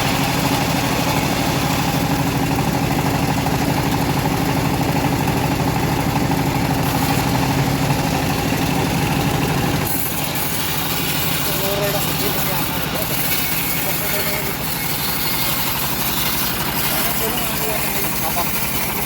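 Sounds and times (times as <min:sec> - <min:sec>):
bandsaw mill engine running: 0:00.0 - 0:19.0.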